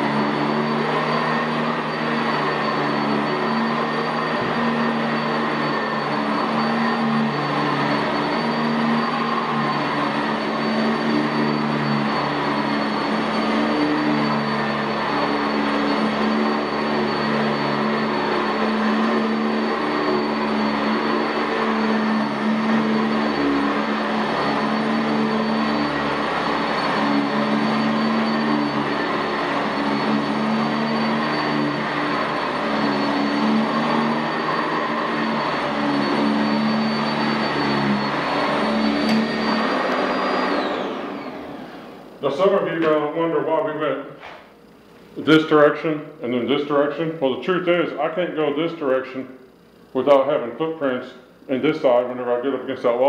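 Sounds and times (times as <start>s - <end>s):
brush roll whirring: 0.0s - 42.5s
vacuum cleaner motor drone: 0.0s - 47.0s.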